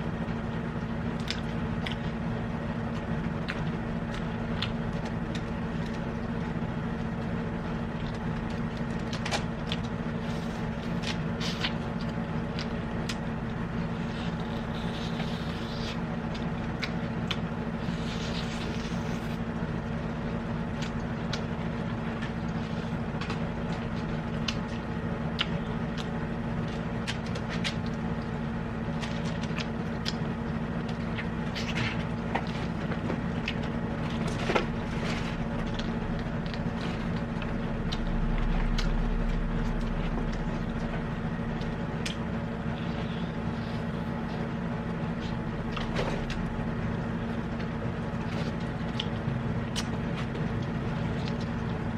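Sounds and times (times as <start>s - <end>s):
steady mechanical hum: 0.0s - 51.9s.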